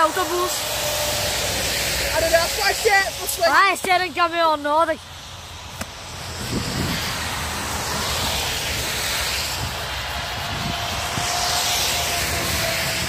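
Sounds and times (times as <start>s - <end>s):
van passing on wet road: 0.0s - 3.6s, 5.0s - 13.0s.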